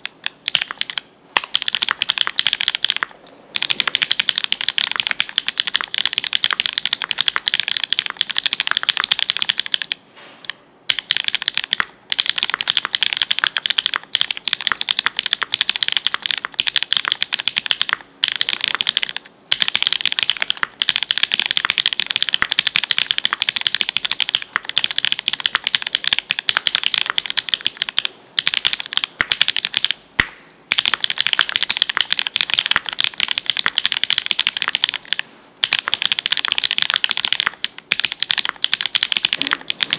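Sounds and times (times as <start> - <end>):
fast mechanical keyboard typing: 0.0 - 10.0, 10.9 - 30.0, 30.7 - 39.9.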